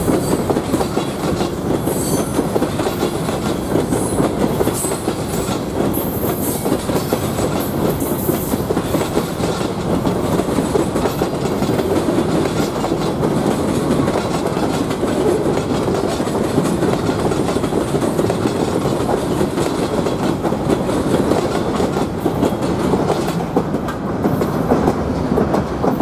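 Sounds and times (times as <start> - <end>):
clickety-clack over rail joints: 0.0 - 26.0
train wheels rumbling on rails: 0.0 - 26.0.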